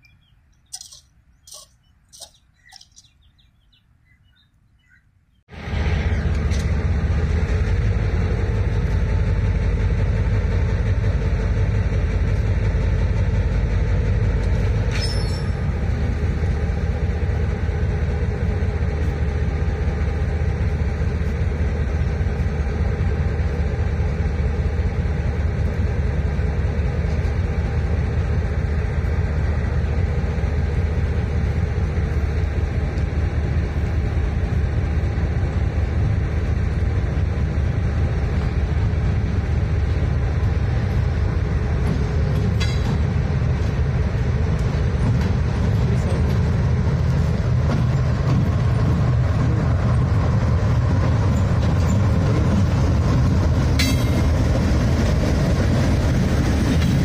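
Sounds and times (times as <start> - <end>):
locomotive rumble: 5.4 - 57.0.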